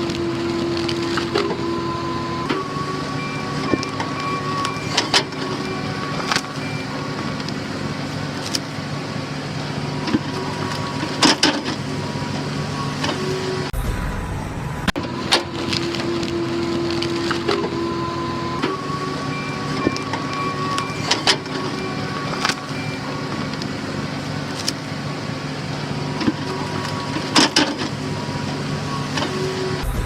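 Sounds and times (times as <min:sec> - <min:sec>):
machinery running: 0:00.0 - 0:30.0.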